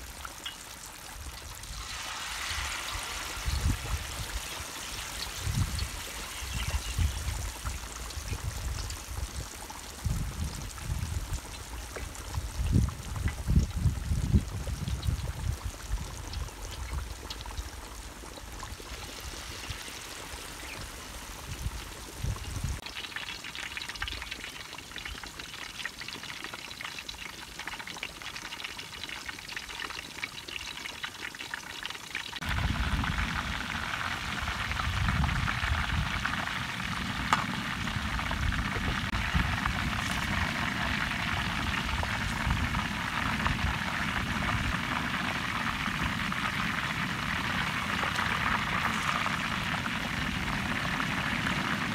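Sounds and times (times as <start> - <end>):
chicken sizzling in hot oil: 0.0 - 51.9.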